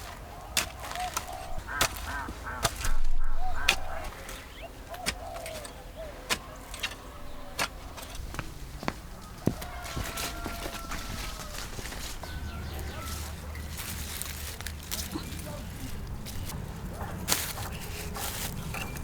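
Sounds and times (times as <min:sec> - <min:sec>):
fowl honking: 0:00.3 - 0:05.7, 0:06.4 - 0:19.0.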